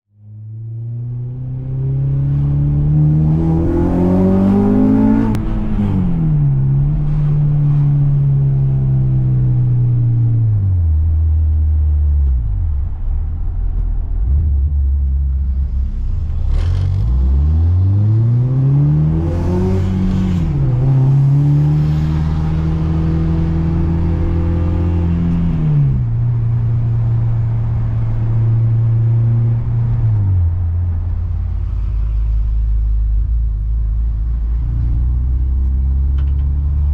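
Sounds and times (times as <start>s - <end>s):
car engine revving: 0.4s - 36.9s.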